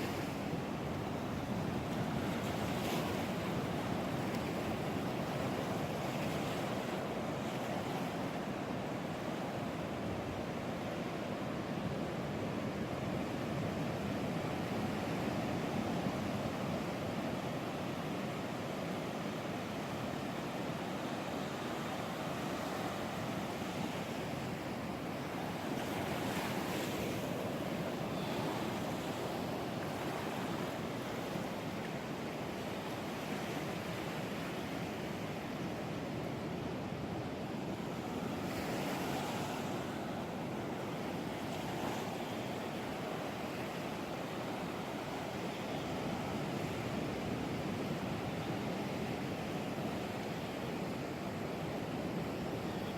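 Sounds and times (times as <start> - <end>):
waves breaking and washing ashore: 0.0 - 52.9.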